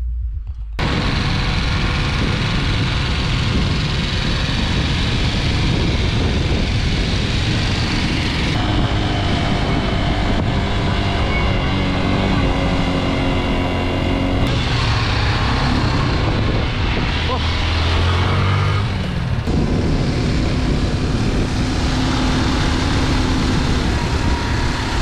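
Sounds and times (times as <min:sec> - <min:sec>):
wind rushing over microphone: 0:00.0 - 0:25.0
motorcycle engines running: 0:00.8 - 0:25.0.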